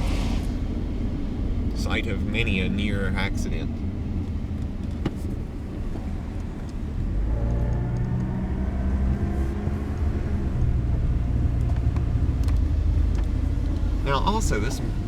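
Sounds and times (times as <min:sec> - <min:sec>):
car engine accelerating: 0:00.0 - 0:15.0
road rumble: 0:00.0 - 0:15.0.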